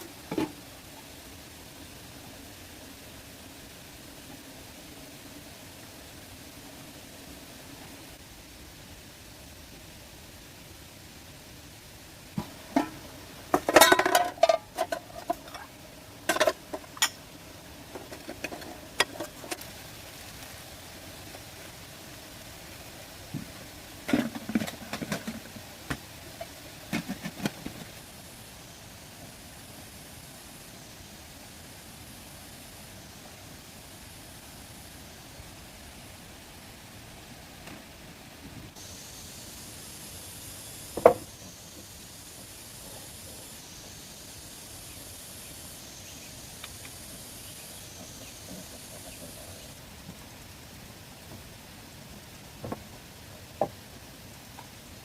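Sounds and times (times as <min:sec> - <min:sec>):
faint high buzz: 0:00.0 - 0:55.0
steady hiss: 0:00.0 - 0:55.0.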